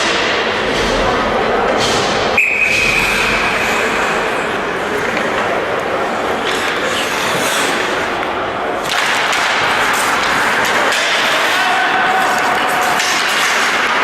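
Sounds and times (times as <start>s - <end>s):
sports hall noise: 0.0s - 14.0s.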